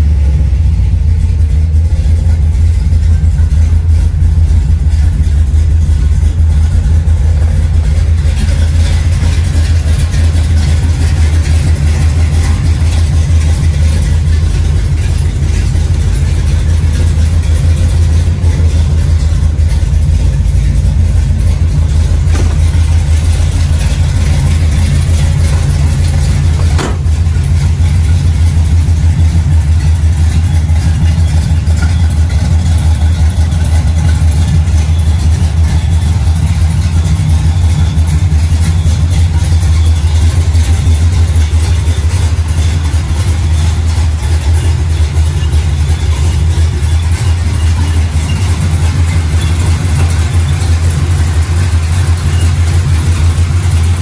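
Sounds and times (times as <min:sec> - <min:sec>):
engine idling with deep rumble: 0:00.0 - 0:54.0.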